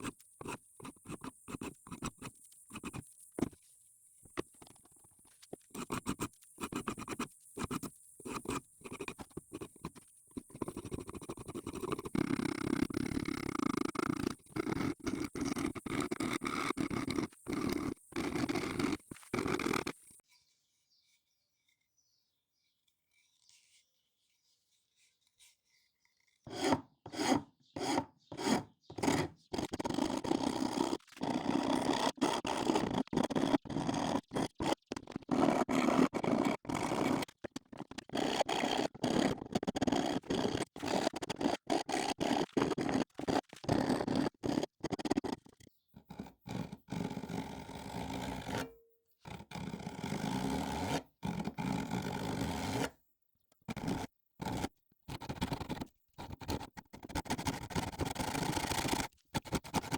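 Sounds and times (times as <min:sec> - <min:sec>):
hand file rasping: 0:00.0 - 0:03.6, 0:05.5 - 0:20.2, 0:26.4 - 0:53.0, 0:53.7 - 0:59.9.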